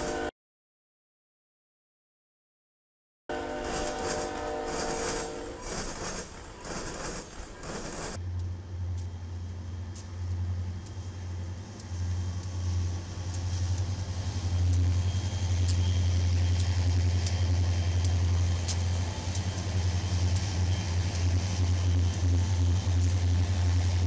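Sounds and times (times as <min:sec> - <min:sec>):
locomotive engines droning: 0:00.0 - 0:00.3, 0:03.3 - 0:24.0.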